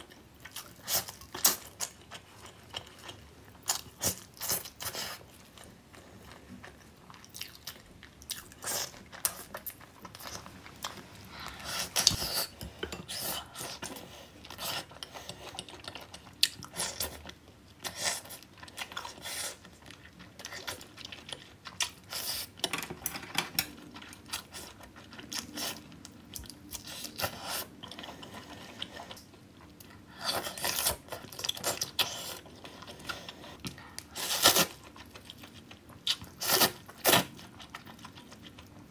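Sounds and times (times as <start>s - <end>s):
wet chewing and crunching: 0.0s - 22.6s, 23.6s - 38.9s.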